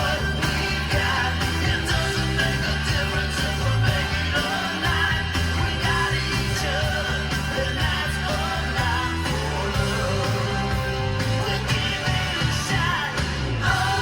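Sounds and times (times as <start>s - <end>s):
song on car stereo: 0.0s - 14.0s.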